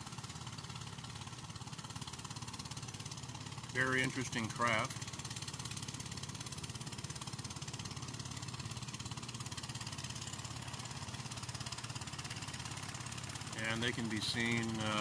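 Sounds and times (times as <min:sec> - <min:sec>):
boat engine running steadily: 0:00.0 - 0:15.0.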